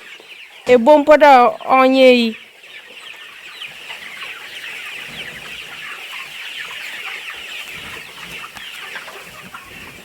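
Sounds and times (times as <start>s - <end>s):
chicks cheeping: 0.0s - 10.0s.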